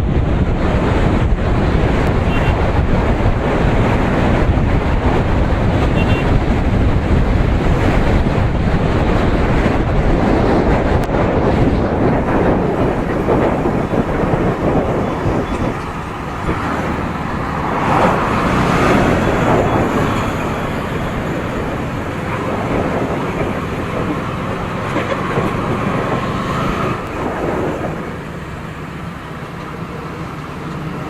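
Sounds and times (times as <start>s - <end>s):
wind noise: 0.0s - 30.2s
road noise: 0.0s - 31.0s
vehicles passing: 0.0s - 31.0s
motorcycle engine: 0.6s - 31.0s.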